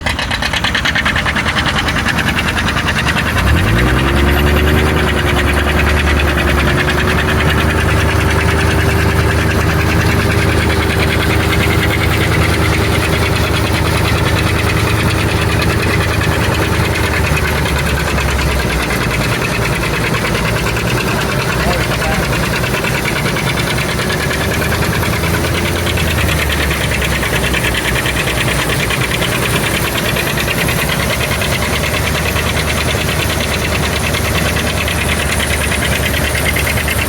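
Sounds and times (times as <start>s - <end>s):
harvesting machinery engine running: 0.0s - 37.0s
strong pitched hum: 0.1s - 32.7s.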